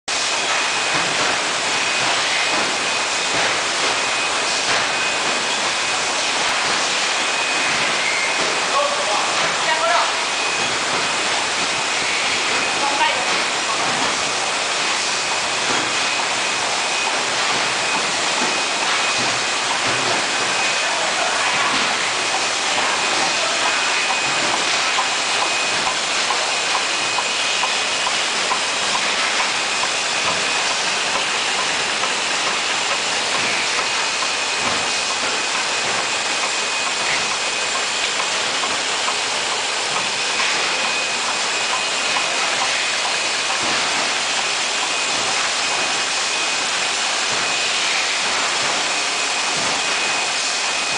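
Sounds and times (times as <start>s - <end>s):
conveyor hiss and clatter: 0.1s - 50.9s.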